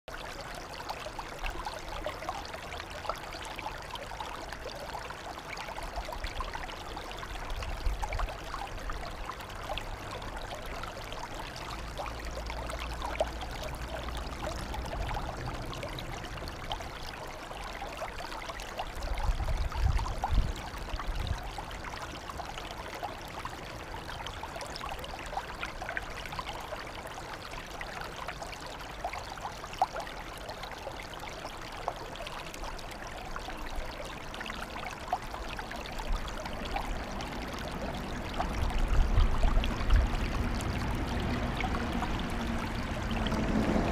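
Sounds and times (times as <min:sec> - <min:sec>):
water trickling: 0:00.1 - 0:43.9.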